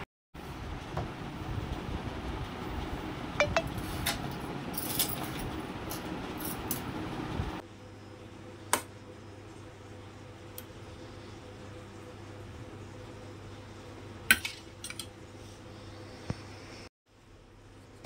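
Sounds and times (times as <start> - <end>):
steady room hum: 0.4 - 18.0.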